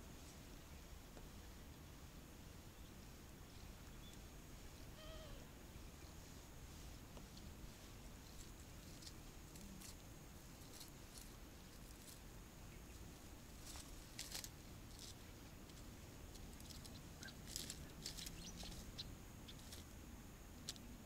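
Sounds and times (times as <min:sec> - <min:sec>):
faint background hiss: 0:00.0 - 0:21.0.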